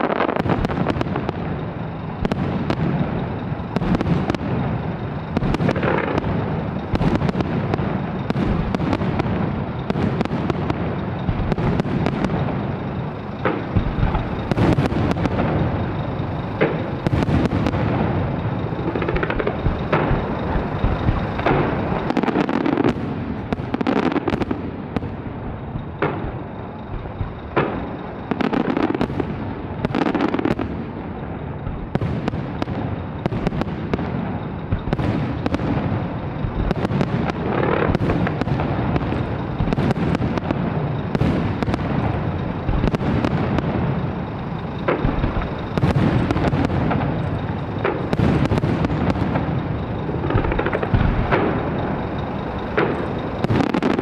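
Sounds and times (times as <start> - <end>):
fireworks shell bursts and booms: 0.0 - 54.0
sharp bangs: 0.0 - 54.0.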